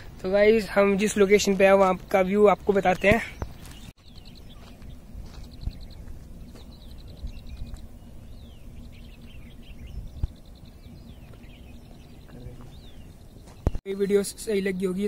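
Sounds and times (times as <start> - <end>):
birds trilling and chirping: 0.0 - 15.0.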